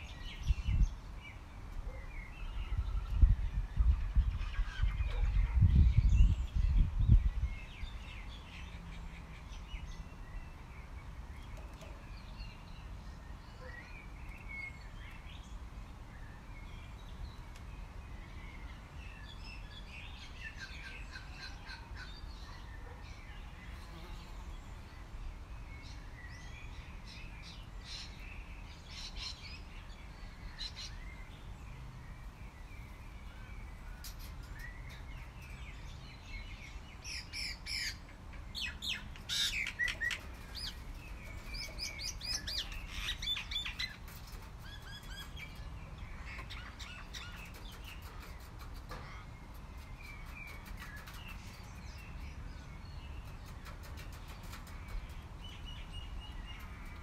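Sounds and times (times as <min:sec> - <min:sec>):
wild birds chirping: 0:00.0 - 0:57.0.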